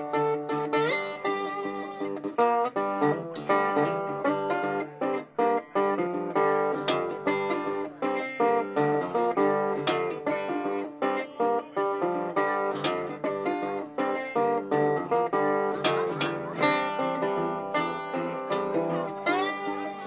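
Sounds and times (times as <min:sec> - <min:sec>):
slide resonator guitar fingerpicked: 0:00.0 - 0:20.0.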